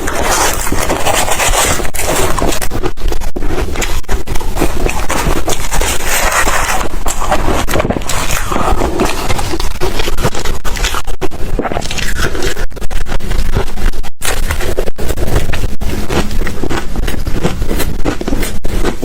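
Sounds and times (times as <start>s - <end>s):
ice being chewed and crunched: 0.0s - 19.0s.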